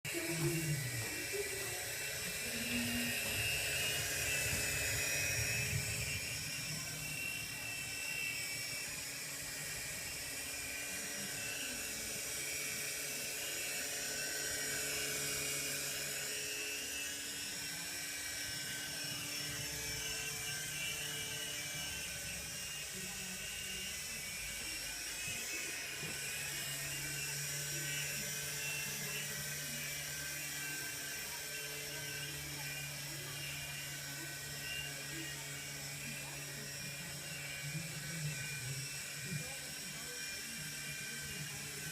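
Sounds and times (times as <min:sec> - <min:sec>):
helicopter whine and hum: 0:00.1 - 0:41.9.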